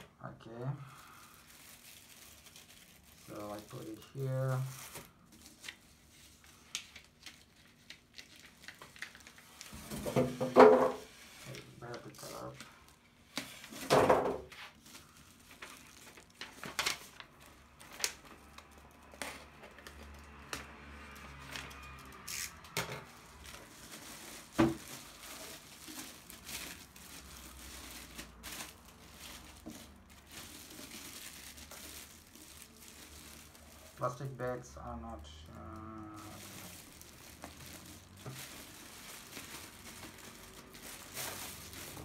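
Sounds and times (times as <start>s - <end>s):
plastic packaging crinkling: 0.9s - 42.0s.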